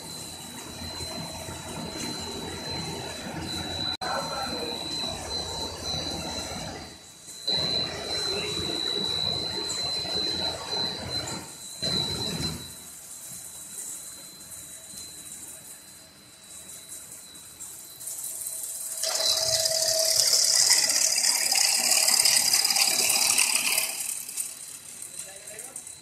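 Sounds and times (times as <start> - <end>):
machinery rushing with high whine: 0.0 - 14.4, 17.2 - 26.0.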